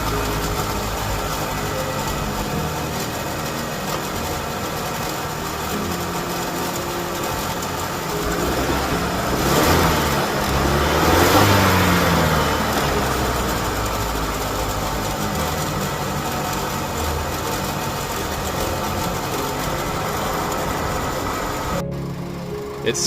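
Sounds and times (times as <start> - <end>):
truck engine running with rattle: 0.0 - 23.0.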